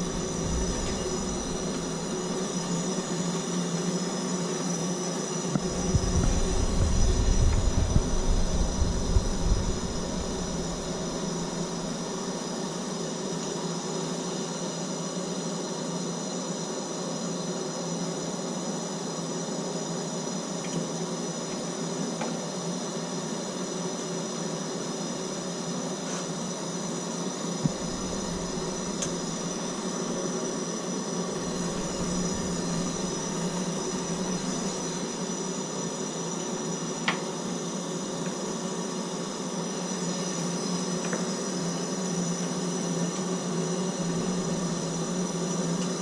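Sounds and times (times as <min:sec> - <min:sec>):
soldering torch hissing: 0:00.0 - 0:46.0.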